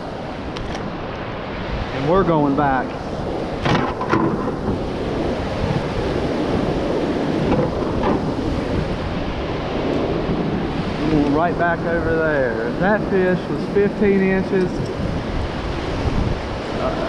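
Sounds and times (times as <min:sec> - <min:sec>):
river rapid rushing: 0:00.0 - 0:17.0
wind buffeting microphone: 0:00.0 - 0:17.0.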